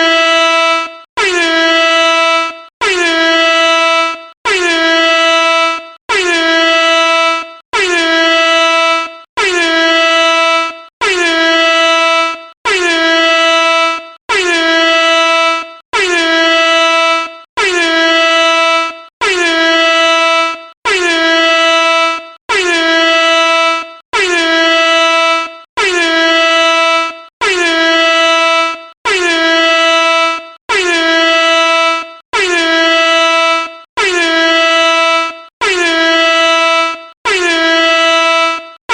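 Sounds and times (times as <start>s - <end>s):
air horn blasts: 0.0s - 38.9s.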